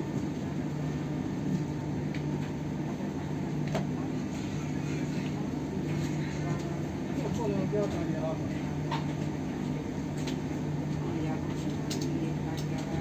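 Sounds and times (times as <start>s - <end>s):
train cabin hum: 0.0s - 13.0s.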